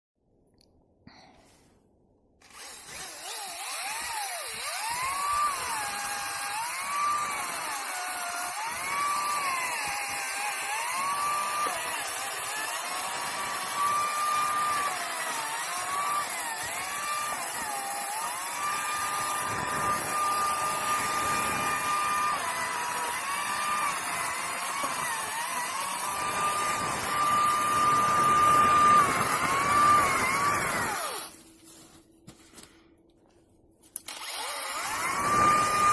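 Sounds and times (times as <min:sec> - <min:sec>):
electric chainsaw cutting wood: 0:02.4 - 0:31.4, 0:34.0 - 0:35.9.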